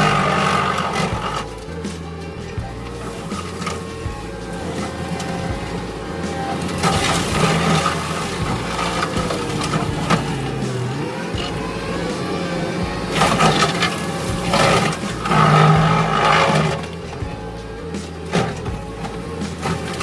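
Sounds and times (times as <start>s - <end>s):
crashing noise: 0.0s - 20.0s
diesel engine under load: 0.0s - 20.0s.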